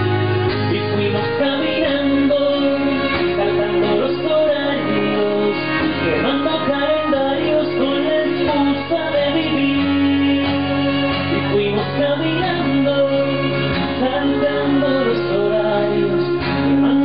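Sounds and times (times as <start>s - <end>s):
strummed acoustic guitar: 0.0s - 17.0s
violin sustained notes: 0.0s - 17.0s.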